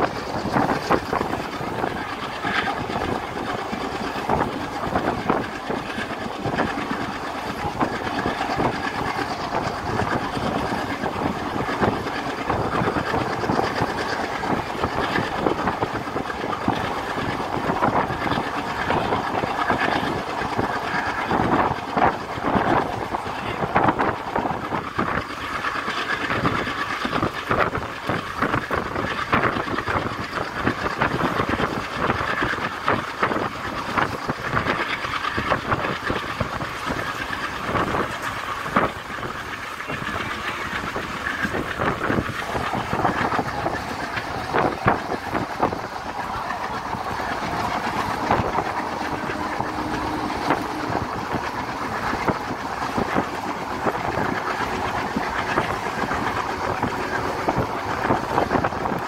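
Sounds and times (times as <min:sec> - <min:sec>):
carriage rumbling rattle: 0:00.0 - 0:59.0
train wheels clattering: 0:00.0 - 0:59.0.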